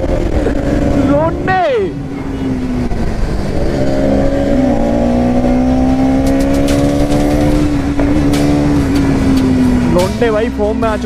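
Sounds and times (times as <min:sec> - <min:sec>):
vehicle engine at high revs: 0:00.0 - 0:11.0.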